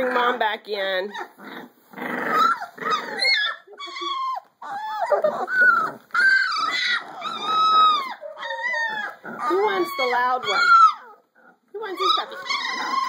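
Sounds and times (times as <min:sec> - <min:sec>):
puppies whining: 0:01.0 - 0:13.0.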